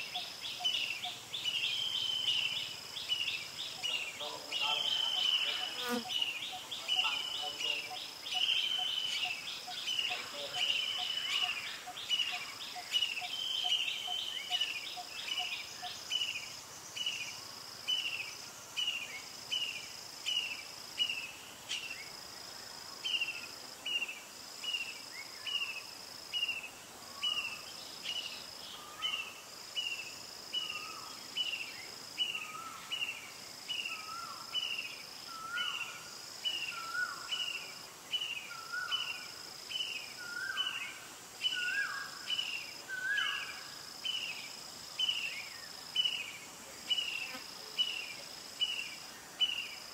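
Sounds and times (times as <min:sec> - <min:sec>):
insect buzzing: 0:00.0 - 0:49.9.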